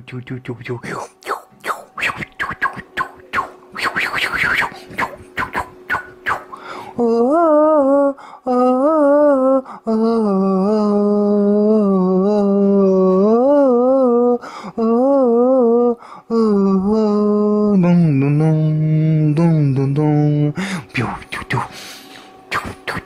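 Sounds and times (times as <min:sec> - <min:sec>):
man humming a melody: 0:00.0 - 0:21.8, 0:22.5 - 0:23.0.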